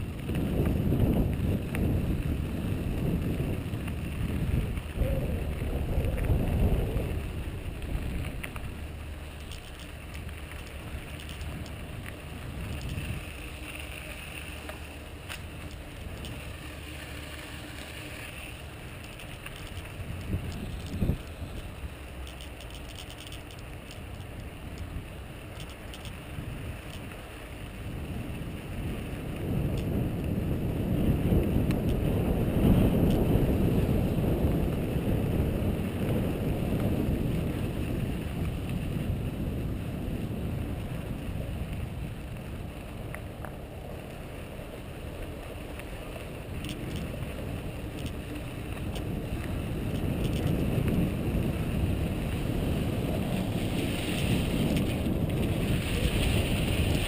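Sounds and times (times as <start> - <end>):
bike tyres rolling on dirt: 0.0 - 57.0
wind rushing over microphone: 0.0 - 57.0.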